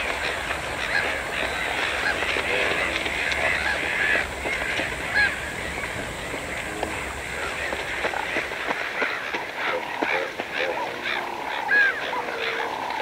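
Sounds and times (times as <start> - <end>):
flock of water birds calling: 0.0 - 13.0.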